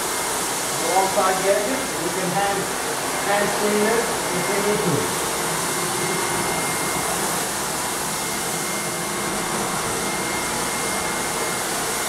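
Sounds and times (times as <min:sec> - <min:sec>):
floor buffer and vacuum rushing: 0:00.0 - 0:12.0.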